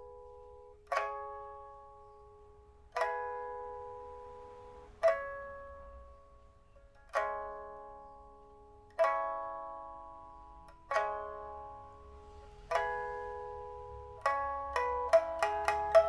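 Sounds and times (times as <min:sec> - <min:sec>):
pipa plucked notes: 0:00.0 - 0:16.0.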